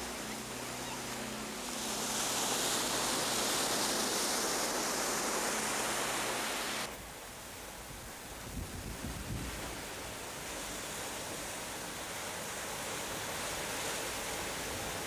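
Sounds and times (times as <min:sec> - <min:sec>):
sea waves breaking on shore: 0:00.0 - 0:15.0.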